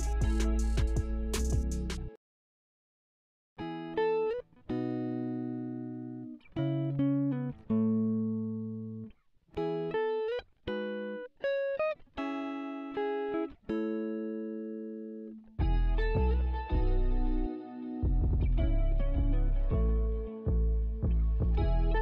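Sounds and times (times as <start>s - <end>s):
plucked guitar melody: 0.0s - 2.1s, 3.6s - 22.0s.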